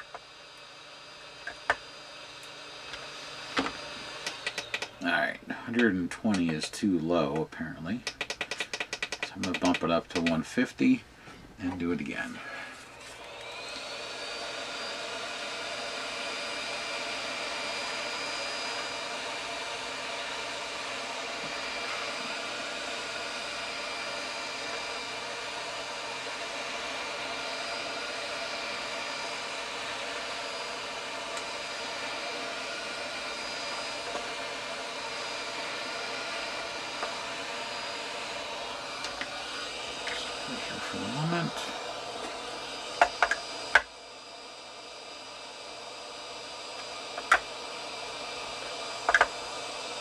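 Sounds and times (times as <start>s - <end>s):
heat gun blowing: 0.0s - 50.0s.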